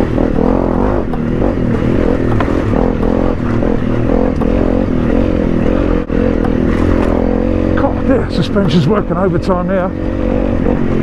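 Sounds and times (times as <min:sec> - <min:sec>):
motorcycle engine running: 0:00.0 - 0:11.0
motorcycle knocks and rattles: 0:00.0 - 0:11.0.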